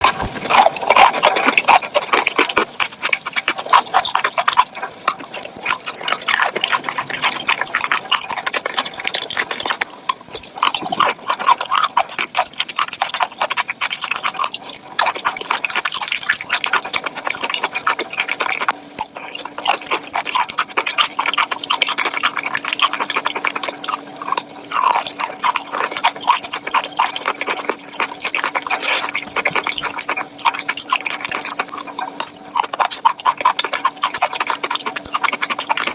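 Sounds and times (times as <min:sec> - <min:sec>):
food crunching while chewed: 0:00.0 - 0:35.9.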